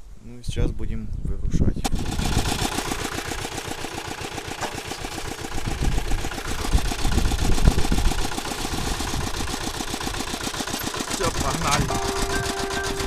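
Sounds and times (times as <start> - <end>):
single-cylinder engine idling: 1.9 - 13.0.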